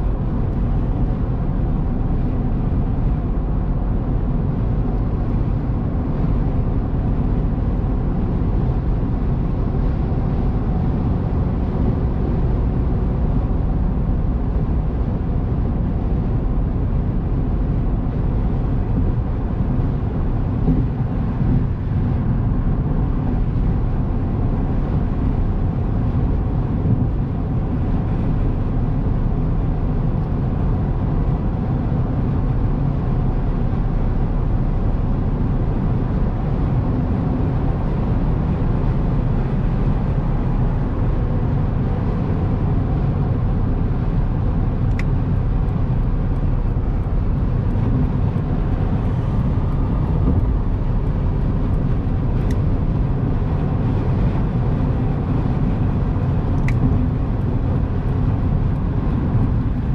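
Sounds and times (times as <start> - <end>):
car engine running: 0.0 - 59.9
tyre and road noise: 0.0 - 59.9.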